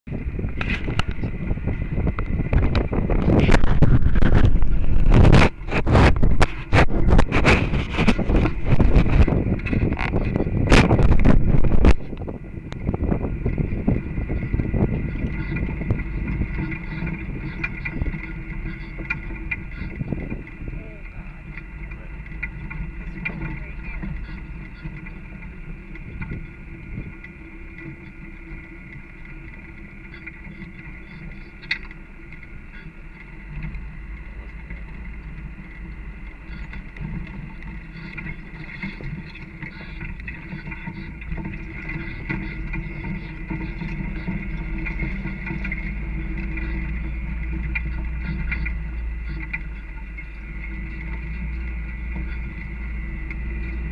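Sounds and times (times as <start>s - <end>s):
vehicle engine drone: 0.0s - 53.9s
rattles and knocks from bumps: 0.4s - 53.9s.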